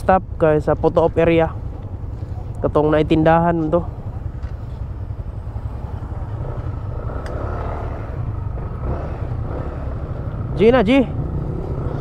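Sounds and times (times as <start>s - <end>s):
scooter engine rumbling: 0.2s - 12.0s.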